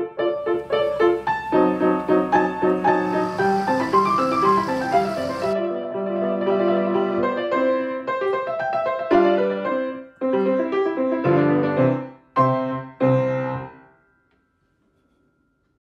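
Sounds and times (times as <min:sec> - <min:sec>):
piano music: 0:00.0 - 0:14.1.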